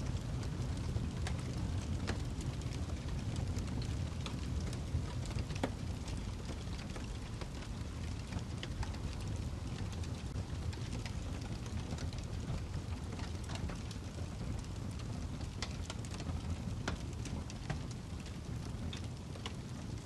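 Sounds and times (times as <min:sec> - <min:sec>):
burning log crackling and popping: 0:00.0 - 0:20.0
low rumble of flames: 0:00.0 - 0:20.0.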